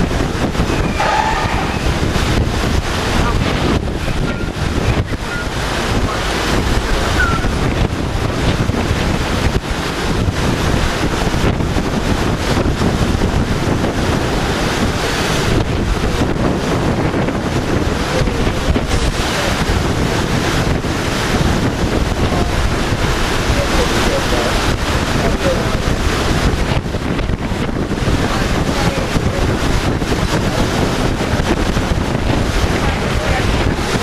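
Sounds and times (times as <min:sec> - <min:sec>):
water churning: 0:00.0 - 0:34.0
wind buffeting microphone: 0:00.0 - 0:34.0.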